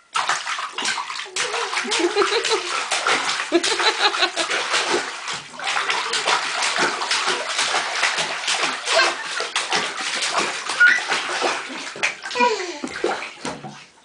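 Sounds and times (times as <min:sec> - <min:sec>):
child splashing bathwater: 0:00.0 - 0:14.0.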